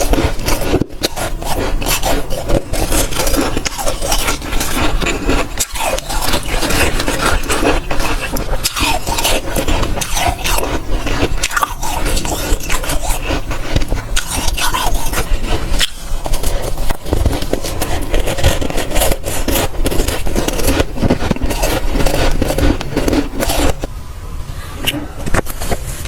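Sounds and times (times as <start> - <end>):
frost crunching and scraping: 0.0 - 23.9, 25.2 - 26.0.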